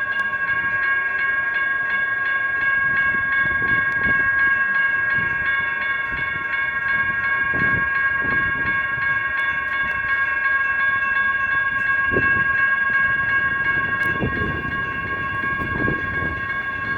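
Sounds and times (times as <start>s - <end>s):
freight train rumble: 0.0s - 16.9s
railroad crossing bells ringing: 0.0s - 16.9s.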